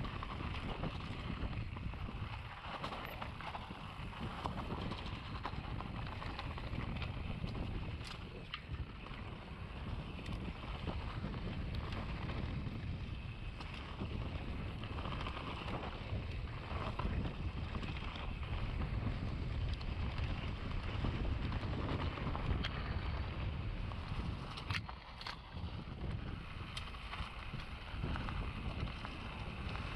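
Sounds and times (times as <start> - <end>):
bike rattling: 0.0 - 29.9
bike tyres rumbling on dirt: 0.0 - 29.9
wind buffeting microphone: 0.0 - 29.9.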